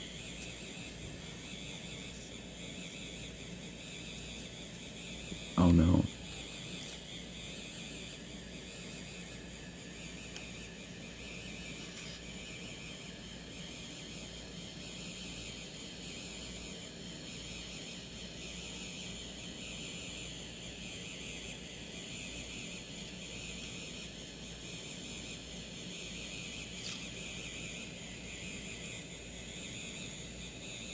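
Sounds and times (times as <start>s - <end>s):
small motor high-pitched whine: 0.0s - 30.9s.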